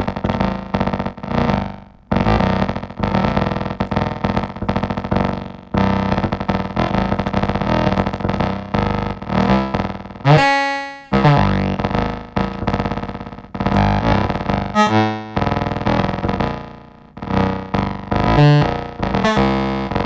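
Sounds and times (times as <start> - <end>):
synth bass line: 0.0 - 19.7.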